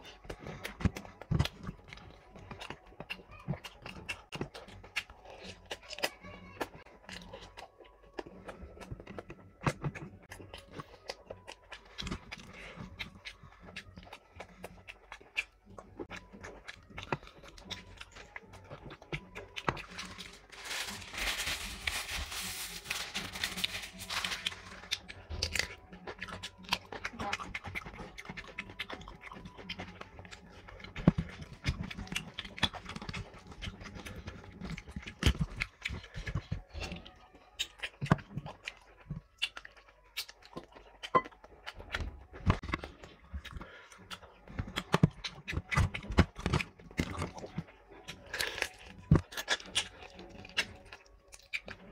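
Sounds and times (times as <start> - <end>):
chewing and lip-smacking: 0.0 - 20.5, 23.6 - 51.9
crunching food: 0.0 - 51.9.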